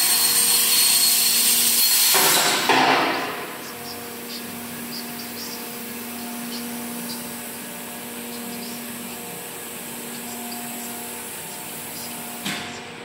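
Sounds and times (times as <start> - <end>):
plasma cutter hissing: 0.0 - 12.6
steady hum: 1.1 - 13.0.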